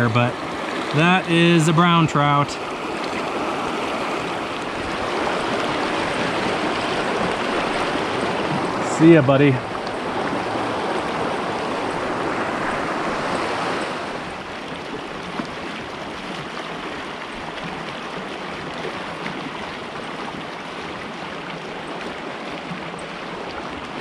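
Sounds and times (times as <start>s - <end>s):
stream babbling over stones: 0.0s - 11.4s, 14.0s - 24.0s.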